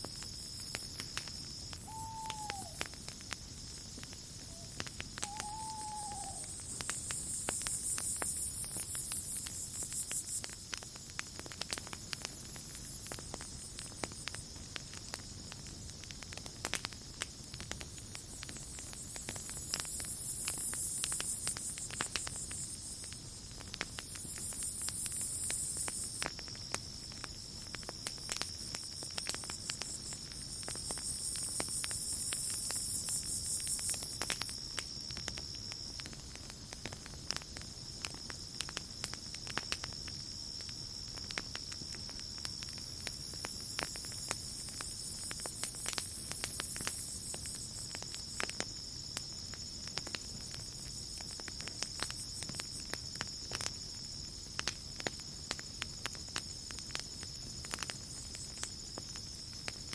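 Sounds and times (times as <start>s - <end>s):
campfire crackling and popping: 0.0s - 59.9s
insects trilling: 0.0s - 59.9s.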